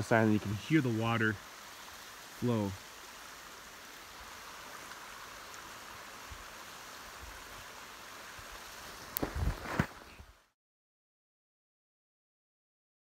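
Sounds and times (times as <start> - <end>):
water flowing: 0.0 - 10.6.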